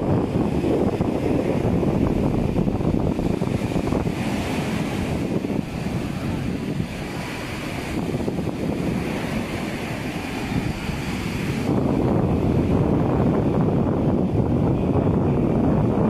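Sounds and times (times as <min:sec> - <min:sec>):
sea surf breaking on beach: 0:00.0 - 0:16.0
wind on microphone: 0:00.0 - 0:16.0.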